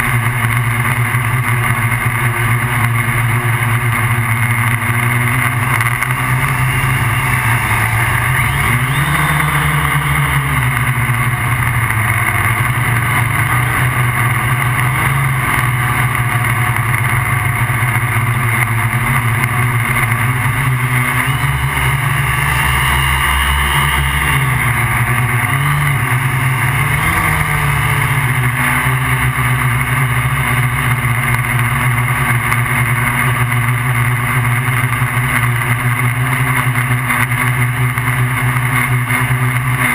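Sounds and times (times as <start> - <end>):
quadcopter motors buzzing: 0.0 - 32.2.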